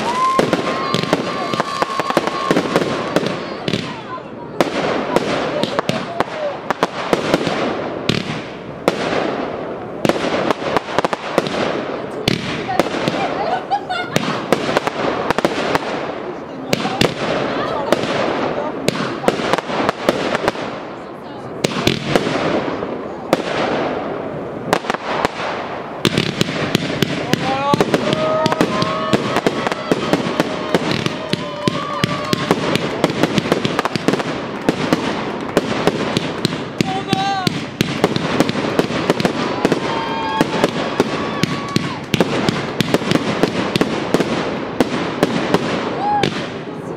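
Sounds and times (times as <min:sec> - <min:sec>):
firework bangs: 0:00.0 - 0:46.9
hissing crackle of fireworks: 0:00.0 - 0:46.9.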